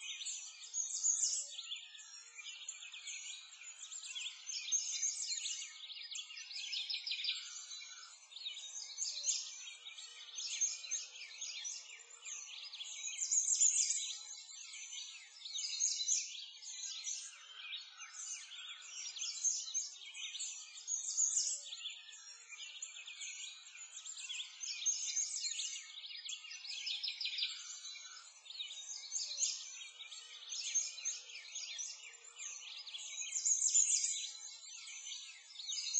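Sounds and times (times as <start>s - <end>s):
birds chirping and trilling: 0.0s - 35.9s.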